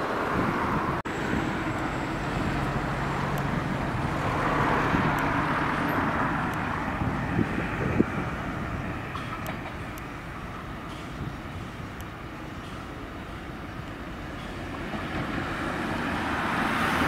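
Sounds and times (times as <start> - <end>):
train rumbling with low hum: 0.0 - 17.0.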